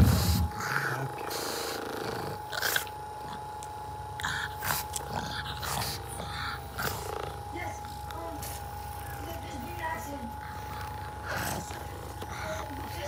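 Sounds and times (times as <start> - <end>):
dog growling and huffing: 0.0 - 13.0
massage gun motor humming: 0.0 - 13.0.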